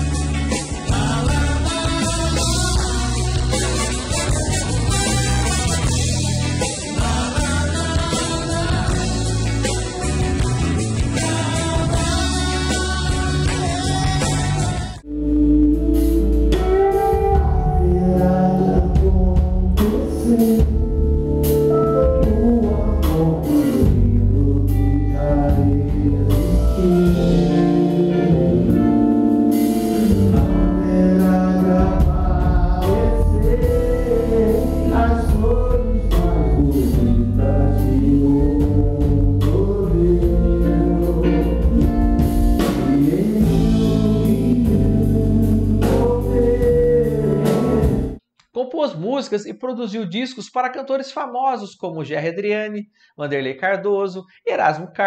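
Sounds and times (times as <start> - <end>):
man singing lead: 0.0 - 21.2, 21.9 - 48.2
drums: 0.0 - 48.2
electric guitars: 0.0 - 48.2.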